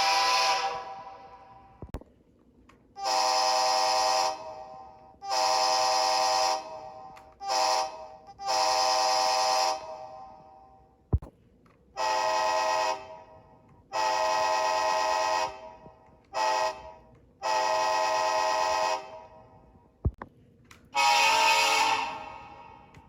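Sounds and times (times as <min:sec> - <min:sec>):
model train horn blasts: 0:00.0 - 0:01.8, 0:03.0 - 0:10.6, 0:12.0 - 0:19.6, 0:20.9 - 0:23.0.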